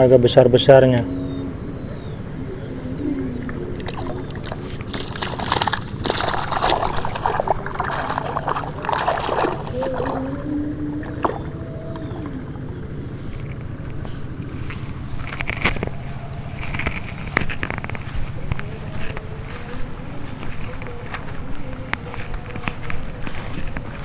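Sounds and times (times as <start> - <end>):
steady low hum: 0.0 - 24.0
water splashing and sloshing: 2.7 - 24.0.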